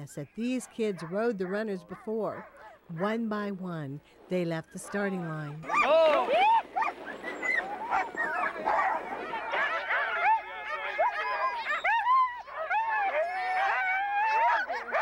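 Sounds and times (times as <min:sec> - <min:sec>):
sled dogs yipping and barking: 0:00.6 - 0:03.1, 0:04.6 - 0:15.0.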